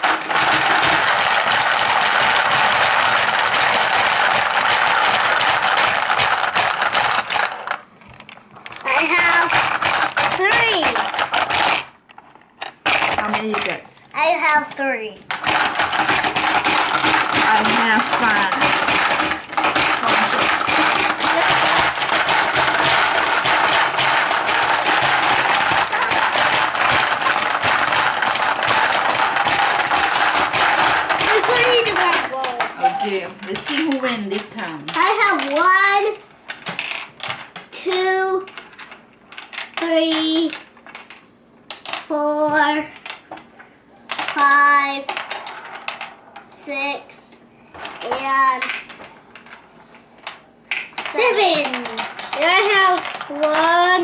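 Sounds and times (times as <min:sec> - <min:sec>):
marbles rattling on plastic board: 0:00.0 - 0:46.9, 0:47.7 - 0:54.0
plastic hippos clacking: 0:00.0 - 0:54.0.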